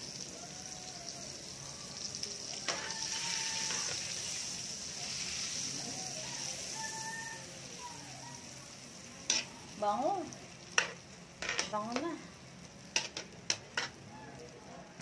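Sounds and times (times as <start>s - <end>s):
butter sizzling in pan: 0.0s - 15.0s.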